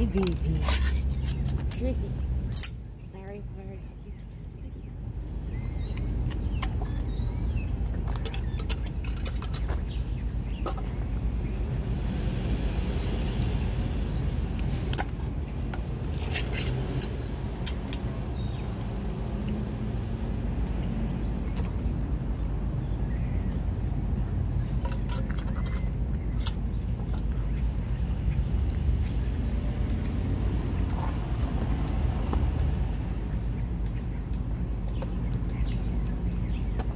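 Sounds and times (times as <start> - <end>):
steady low rumble: 0.0 - 36.9
cat chewing and licking: 4.8 - 36.9.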